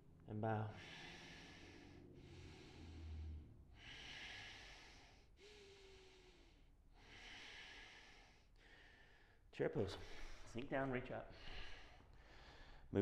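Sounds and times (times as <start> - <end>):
slow breathing: 0.6 - 13.0.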